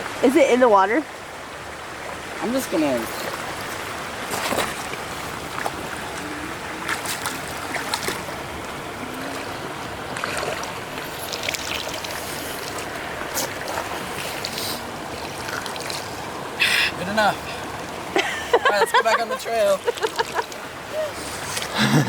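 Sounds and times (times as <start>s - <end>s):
flowing stream water: 0.0s - 22.0s.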